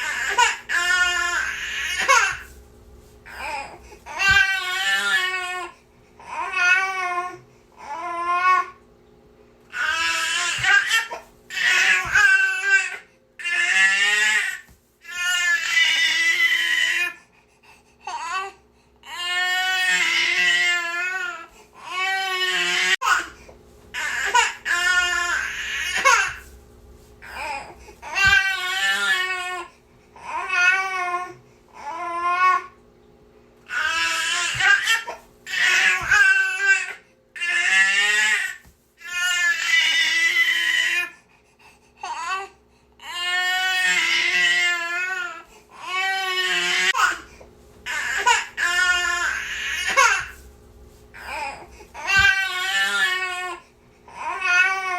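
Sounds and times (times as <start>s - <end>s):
infant crying: 0.0s - 2.5s, 3.3s - 8.8s, 9.7s - 17.2s, 18.1s - 23.4s, 24.0s - 26.5s, 27.2s - 32.8s, 33.7s - 41.2s, 42.0s - 47.3s, 47.9s - 50.4s, 51.2s - 54.9s.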